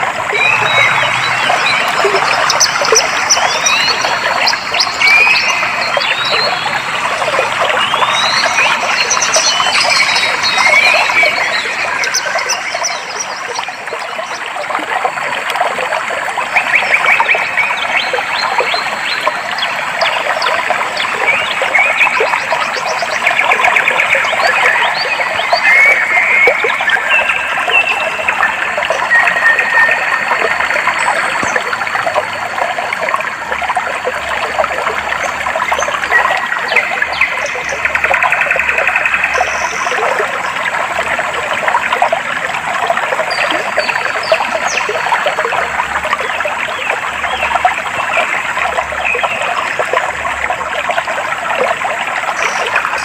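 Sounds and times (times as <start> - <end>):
water flowing and trickling: 0.0 - 53.0.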